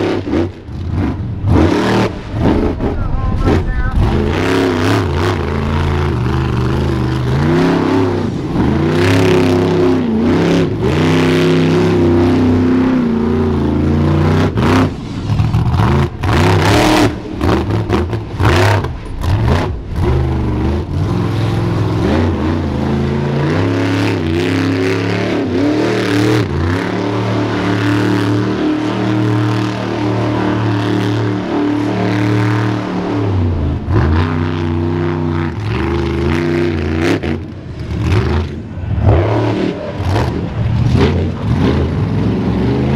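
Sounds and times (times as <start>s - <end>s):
monster truck engine revving: 0.0s - 42.9s.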